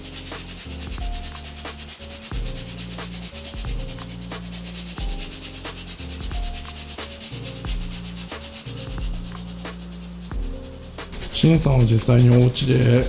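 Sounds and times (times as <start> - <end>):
brush scrubbing rubber sole: 0.0 - 13.0.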